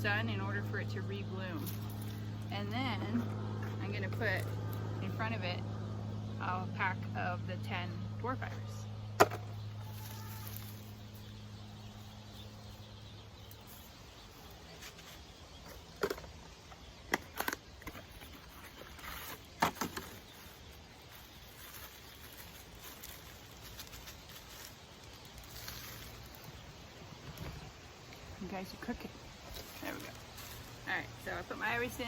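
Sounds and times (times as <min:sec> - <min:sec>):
faint outdoor background: 0:00.0 - 0:32.0
low steady hum: 0:00.0 - 0:32.0.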